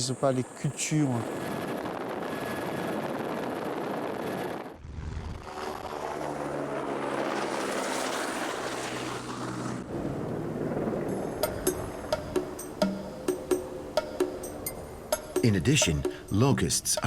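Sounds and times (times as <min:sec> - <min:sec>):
helicopter rotor and engine: 0:00.0 - 0:15.8.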